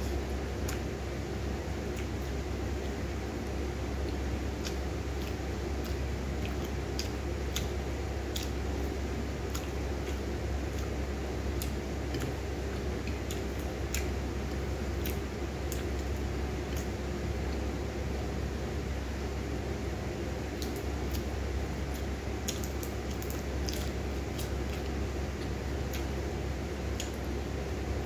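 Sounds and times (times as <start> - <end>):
steady low hum: 0.0 - 28.0
chewing with crunches: 1.8 - 18.3, 20.4 - 27.5.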